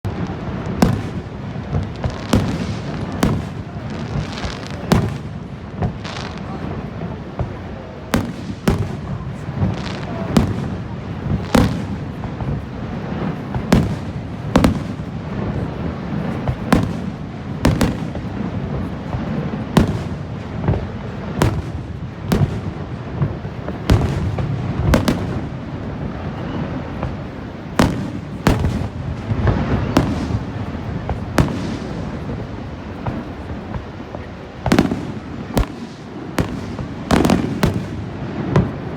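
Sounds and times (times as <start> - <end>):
fireworks bursting with sharp bangs: 0.0 - 38.9.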